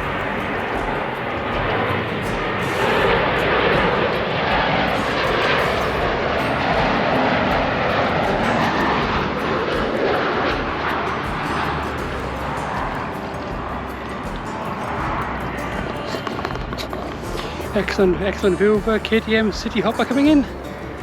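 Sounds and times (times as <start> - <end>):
airliner engines rushing: 0.0 - 21.0.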